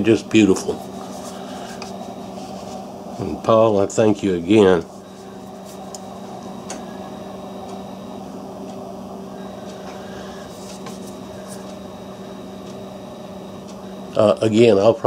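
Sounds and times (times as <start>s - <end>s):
appliance humming with whine: 0.0s - 15.0s.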